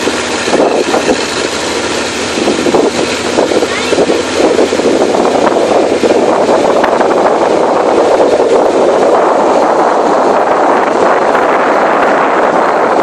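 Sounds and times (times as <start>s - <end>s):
motorboat engine: 0.0s - 13.0s
rushing water from wake: 0.0s - 13.0s
wind buffeting microphone: 0.0s - 13.0s.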